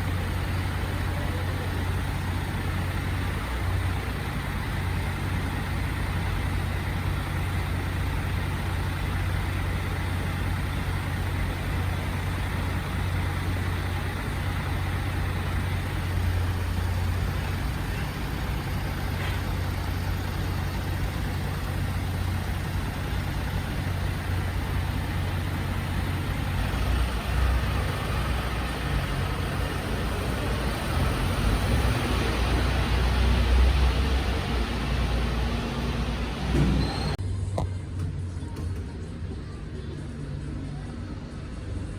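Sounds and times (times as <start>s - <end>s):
heavy truck engine idling: 0.0s - 41.9s.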